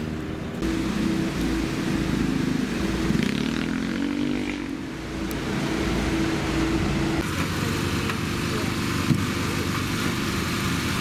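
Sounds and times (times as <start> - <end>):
street traffic humming: 0.0 - 11.0
engine revving: 0.6 - 11.0.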